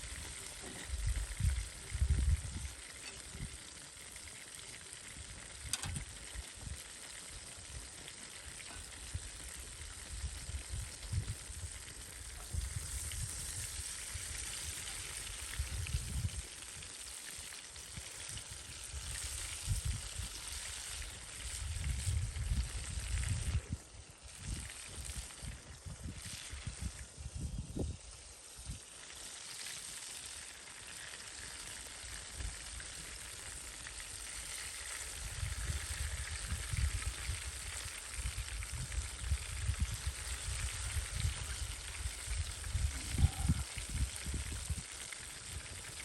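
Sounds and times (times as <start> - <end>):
oil sizzling while deep-frying: 0.0 - 46.0.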